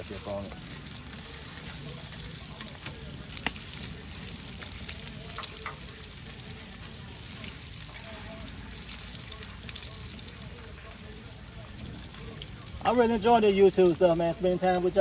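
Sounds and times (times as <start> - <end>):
bacon sizzling on grill: 0.0 - 15.0.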